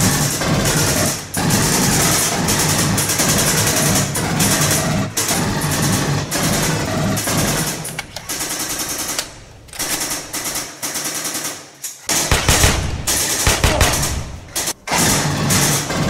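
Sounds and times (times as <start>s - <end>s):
rapid automatic gunfire: 0.0s - 16.0s.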